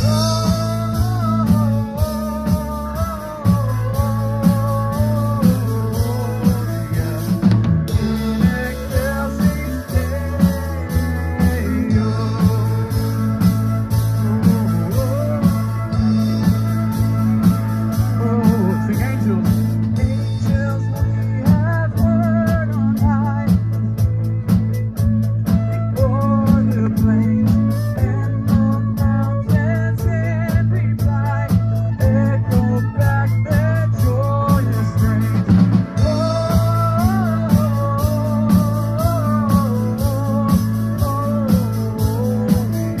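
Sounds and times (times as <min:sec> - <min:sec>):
band playing amplified music: 0:00.0 - 0:43.0
held bass line: 0:00.0 - 0:43.0
person singing: 0:00.0 - 0:43.0
steady drum beat: 0:00.0 - 0:43.0.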